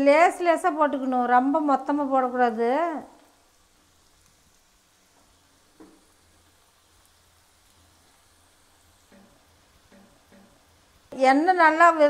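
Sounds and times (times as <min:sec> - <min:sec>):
batter deep-frying in hot oil: 0:00.0 - 0:12.0.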